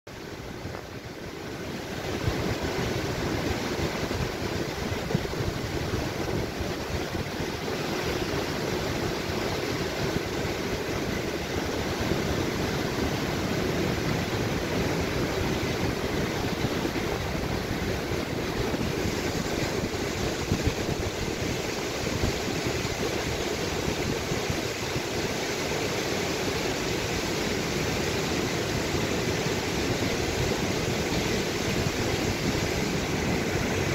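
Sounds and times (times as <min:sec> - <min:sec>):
waterfall rushing over rocks: 0:00.1 - 0:33.9
wind buffeting microphone: 0:00.2 - 0:33.9.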